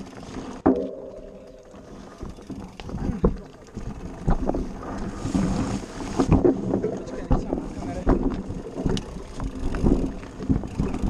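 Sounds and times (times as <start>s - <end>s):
bike rattling: 0.0s - 11.0s.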